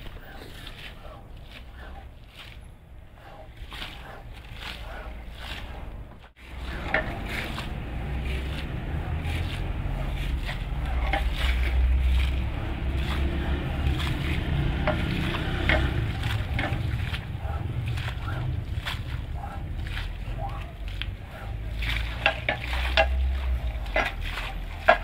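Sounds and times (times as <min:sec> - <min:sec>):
low steady rumble: 0:00.0 - 0:25.0
squeegee swishing water on rug: 0:00.0 - 0:25.0.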